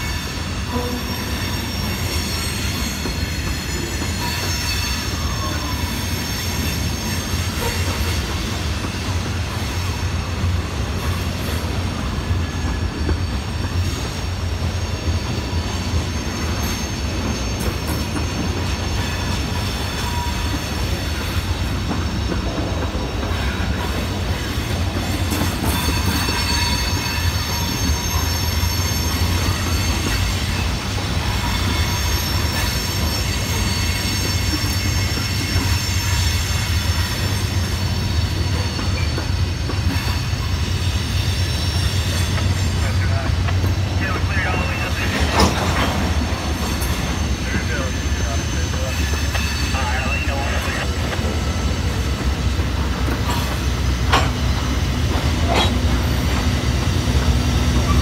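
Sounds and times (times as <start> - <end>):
high squealing wheels: 0.0 - 58.0
train wheels rumbling on rail: 0.0 - 58.0.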